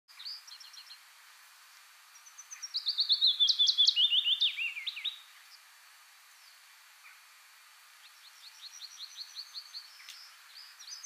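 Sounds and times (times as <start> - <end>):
warbler singing: 0.1 - 1.1, 2.0 - 7.3, 7.9 - 11.0.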